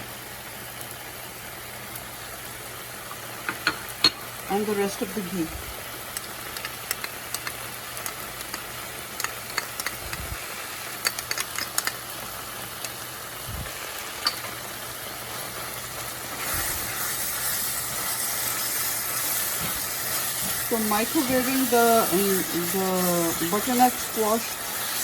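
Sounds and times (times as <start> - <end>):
mixture sizzling in a pan: 0.0 - 25.0.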